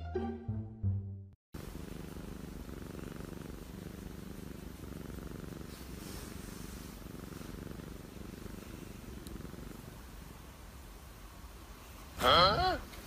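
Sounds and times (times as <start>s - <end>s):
cat purring: 1.6s - 13.0s.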